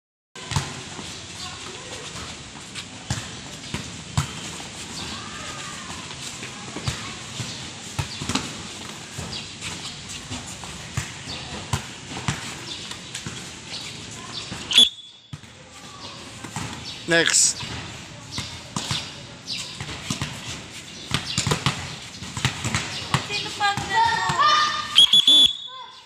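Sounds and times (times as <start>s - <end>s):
sneakers tapping and scuffing on concrete: 0.5s - 25.2s.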